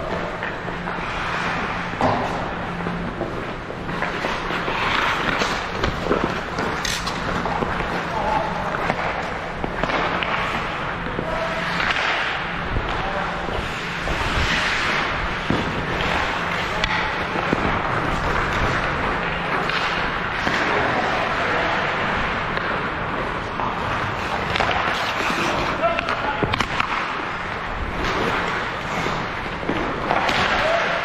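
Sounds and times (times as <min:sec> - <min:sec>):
skates scraping on ice: 0:00.0 - 0:31.0
hockey sticks and puck knocks: 0:00.1 - 0:31.0.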